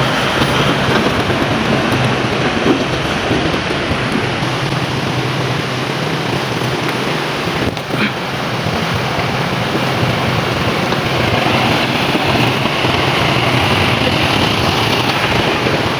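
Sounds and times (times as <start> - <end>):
diesel engine under load: 0.0 - 15.9.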